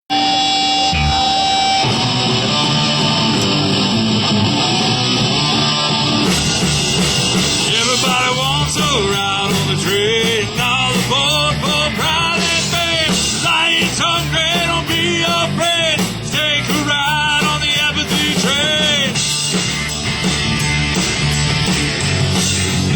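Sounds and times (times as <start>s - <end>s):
melodic lead guitar line: 0.1s - 22.9s
rock band music: 0.1s - 22.9s.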